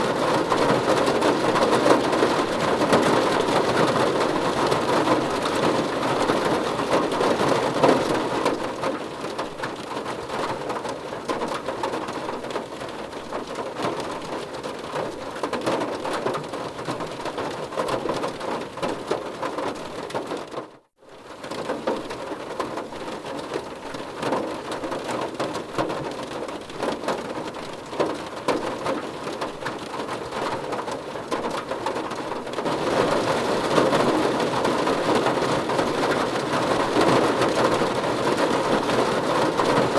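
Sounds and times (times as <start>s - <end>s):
heavy rain pattering on a surface: 0.0s - 39.9s.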